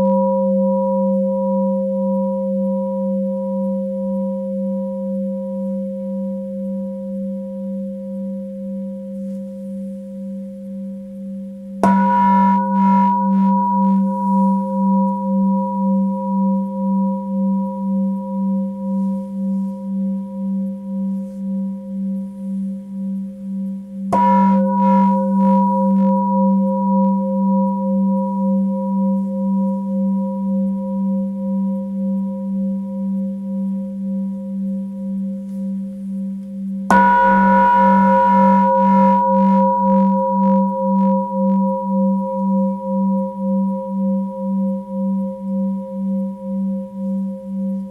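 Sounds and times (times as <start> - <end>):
singing bowl ringing: 0.0 - 47.9.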